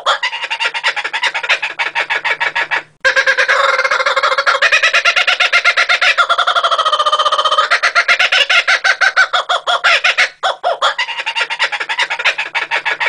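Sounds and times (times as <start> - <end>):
kookaburra laughing call: 0.0 - 13.0.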